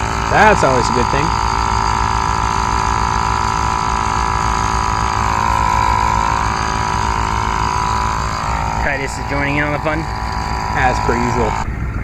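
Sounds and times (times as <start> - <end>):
air compressor whining and rattling: 0.0 - 12.0.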